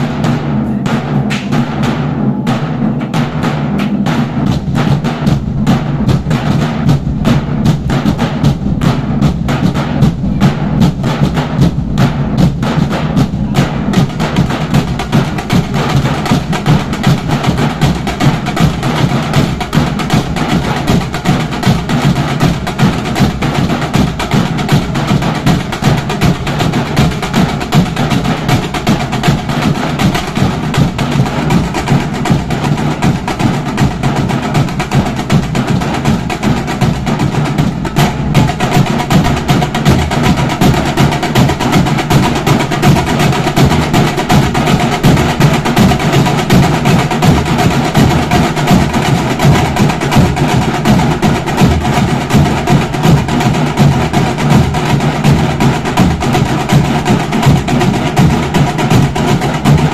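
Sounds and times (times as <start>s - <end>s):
drummers beating drums in unison: 0.0s - 59.9s.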